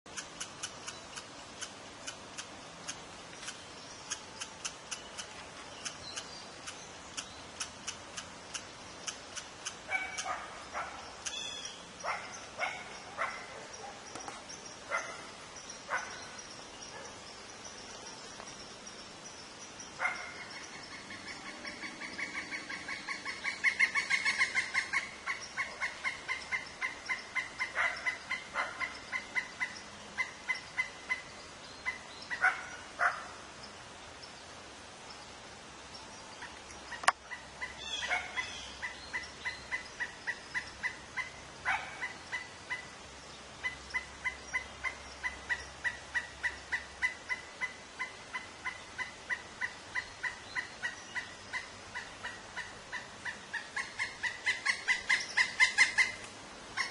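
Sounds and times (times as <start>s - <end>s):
woodpecker calling: 0.1s - 33.4s, 36.3s - 56.9s.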